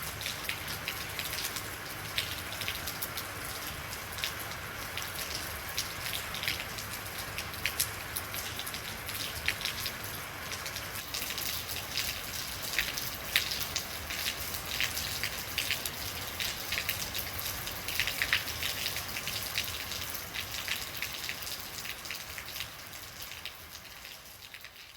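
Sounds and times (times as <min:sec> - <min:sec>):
rain falling: 0:00.0 - 0:24.9
raindrops striking a surface: 0:00.0 - 0:24.9.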